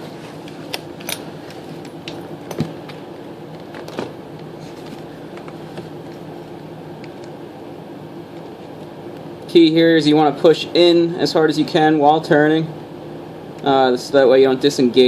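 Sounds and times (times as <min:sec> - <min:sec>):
steady fan-like hum: 0:00.0 - 0:15.0.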